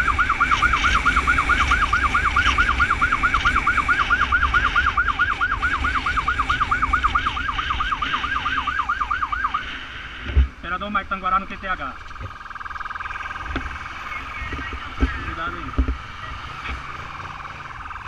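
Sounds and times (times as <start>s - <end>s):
siren yelping: 0.0s - 10.2s, 11.3s - 18.0s
engine and road rumble: 0.0s - 18.0s.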